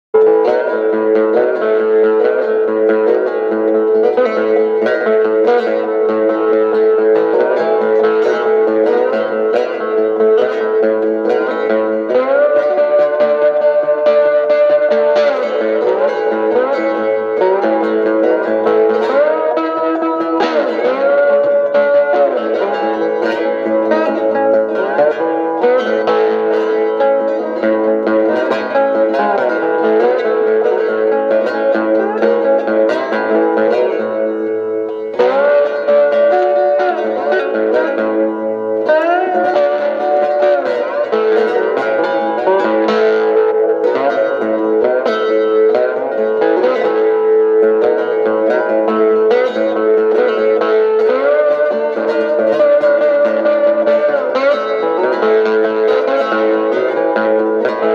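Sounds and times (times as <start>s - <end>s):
twangy plucked guitar: 0.0s - 57.9s.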